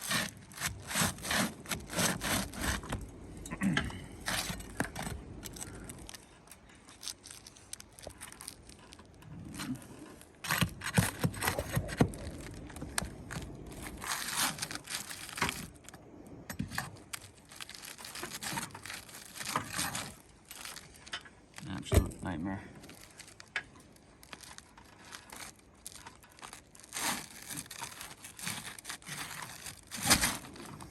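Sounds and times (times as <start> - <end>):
roof shingle scraping and tearing: 0.0 - 3.2, 3.8 - 16.0, 16.6 - 30.9.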